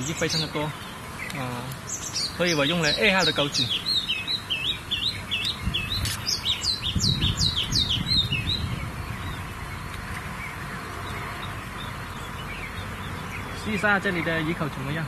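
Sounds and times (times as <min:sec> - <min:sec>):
bird chirping: 0:00.0 - 0:15.0
faint outdoor hiss: 0:00.0 - 0:15.0.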